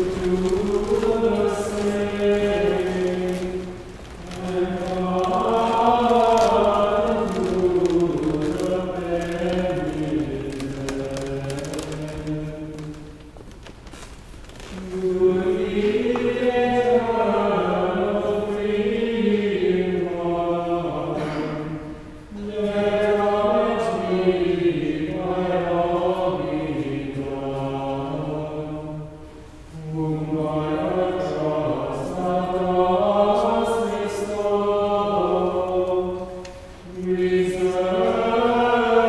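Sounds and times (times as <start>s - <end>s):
choir chanting: 0.0s - 13.0s, 14.7s - 39.0s.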